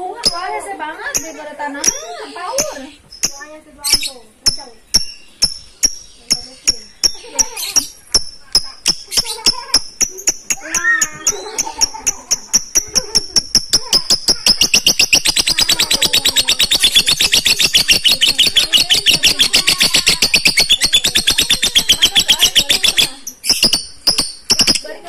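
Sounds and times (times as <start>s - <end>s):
lovebird chattering trill: 0.0s - 25.0s.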